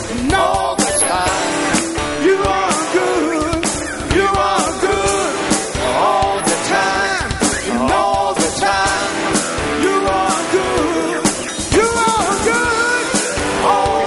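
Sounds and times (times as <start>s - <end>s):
person singing a held melody: 0.0s - 14.0s
worship band with drums: 0.0s - 14.0s.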